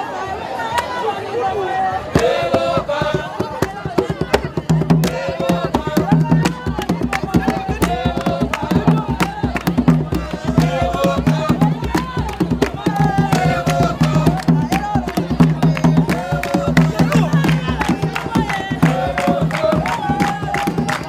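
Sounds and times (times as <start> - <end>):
group singing: 0.0 - 21.0
wooden hand drums beating: 2.2 - 21.0.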